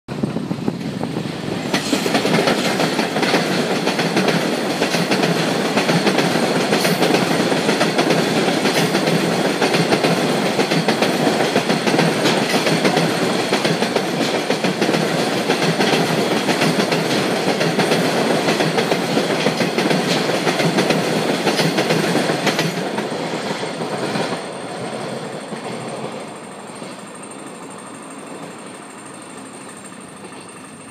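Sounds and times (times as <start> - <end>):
freight train rolling past: 0.1 - 30.9
wheels clicking over rail joints: 1.6 - 30.9.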